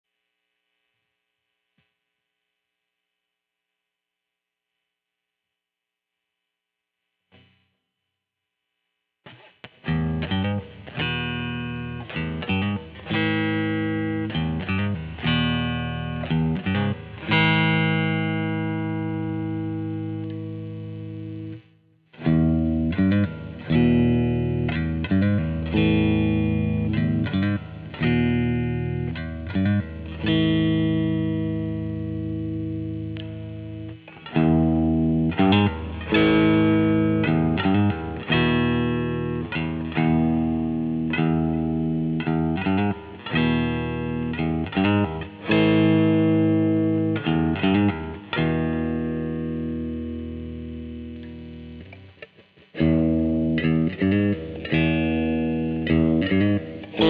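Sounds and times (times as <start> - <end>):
electric guitar chords: 9.2 - 57.0.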